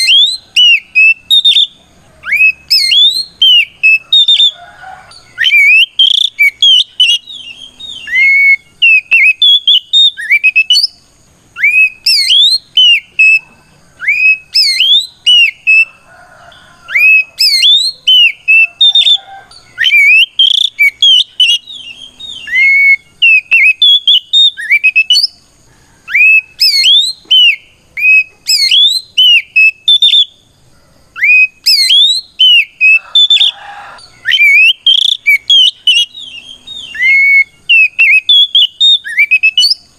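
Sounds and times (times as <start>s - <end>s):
bird singing whistled song: 0.0s - 30.6s, 31.2s - 39.9s.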